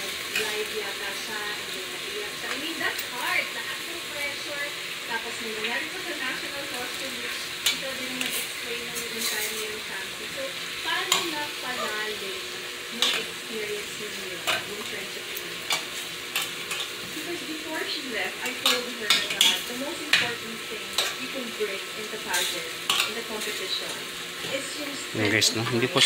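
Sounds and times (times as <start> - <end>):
chicken sizzling in pot: 0.0 - 26.0.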